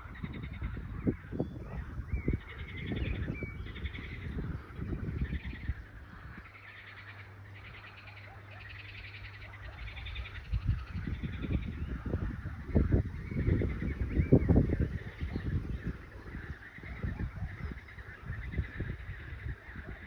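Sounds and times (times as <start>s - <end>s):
birds chirping trills: 0.0s - 20.0s
wind gusting against microphone: 0.0s - 20.0s.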